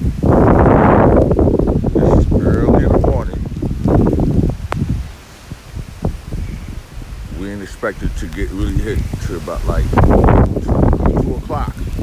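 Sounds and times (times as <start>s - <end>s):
gusty wind buffeting microphone: 0.0s - 12.0s
leaves rustling: 0.0s - 12.0s.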